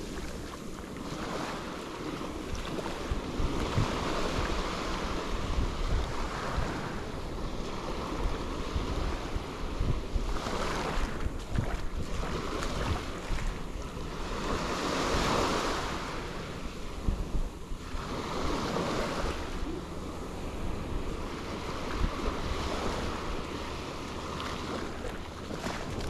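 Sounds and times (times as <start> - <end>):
small waves breaking on beach: 0.0 - 26.0
wind rumbling on microphone: 0.0 - 26.0.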